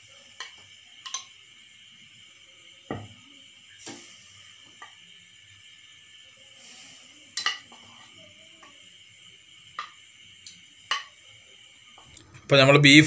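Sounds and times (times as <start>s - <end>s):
meat sizzling on grill: 0.0s - 12.2s.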